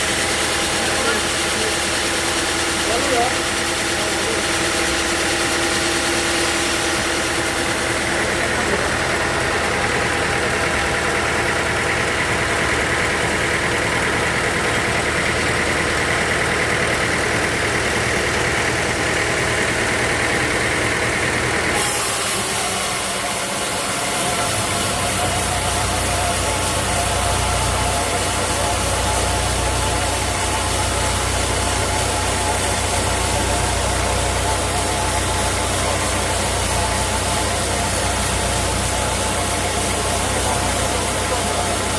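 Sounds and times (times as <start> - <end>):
sawmill machinery drone: 0.0 - 41.9.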